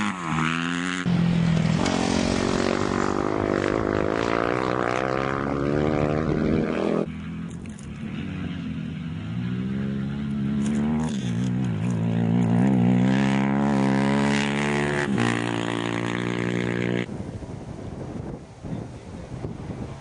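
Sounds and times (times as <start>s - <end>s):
motorbike engine revving: 0.0s - 17.1s.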